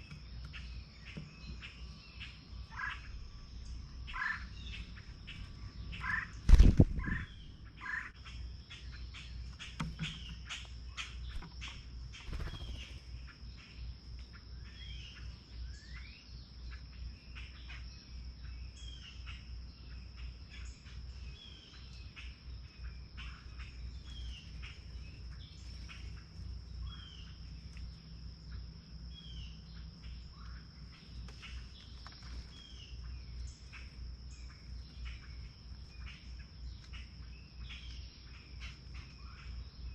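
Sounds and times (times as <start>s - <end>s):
high insect drone: 0.0s - 39.9s
small birds chirping: 0.0s - 39.9s.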